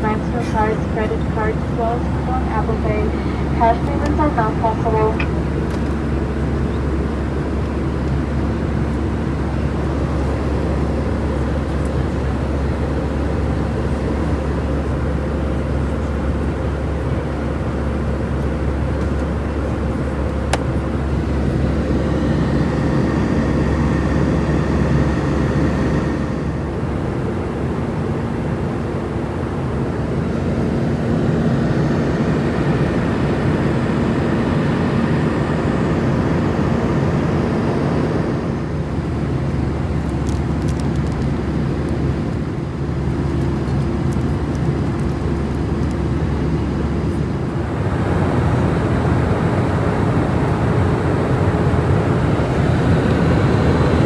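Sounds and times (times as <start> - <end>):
aircraft cabin engine hum: 0.0 - 54.0.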